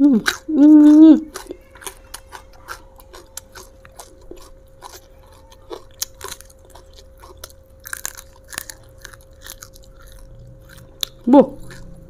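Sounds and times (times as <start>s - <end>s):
crisp crunching and chewing: 0.0s - 12.0s
faint steady hum: 0.0s - 12.0s.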